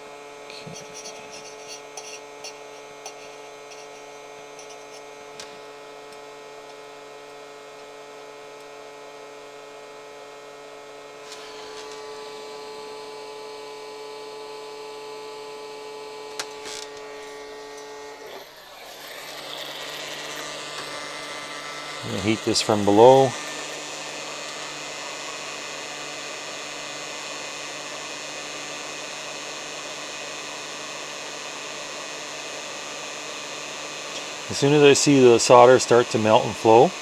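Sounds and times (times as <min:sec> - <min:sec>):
hot-air tool blowing: 0:00.0 - 0:07.5, 0:08.4 - 0:37.0
electrical hum and whine: 0:00.0 - 0:37.0.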